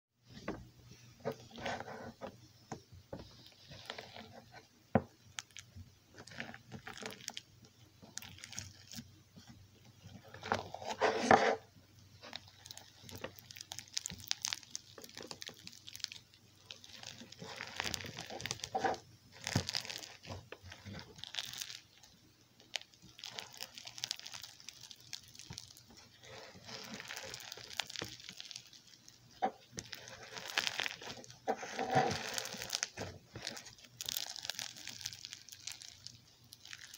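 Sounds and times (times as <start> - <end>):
crunchy slime crackling: 3.1 - 4.6, 5.2 - 36.9.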